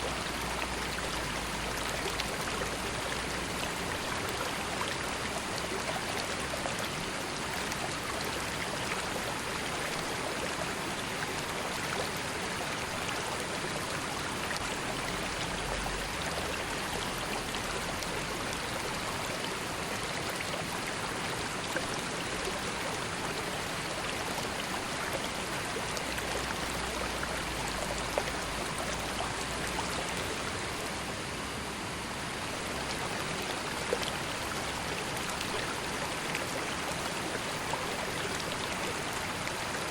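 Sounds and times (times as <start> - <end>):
faint splashes and trickles: 0.0 - 31.2, 31.9 - 39.9
river water flowing over stones: 0.0 - 39.9.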